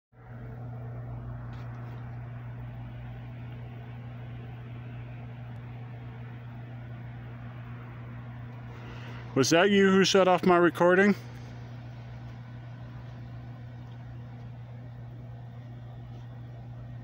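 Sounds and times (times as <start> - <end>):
low machine hum: 0.2 - 17.0.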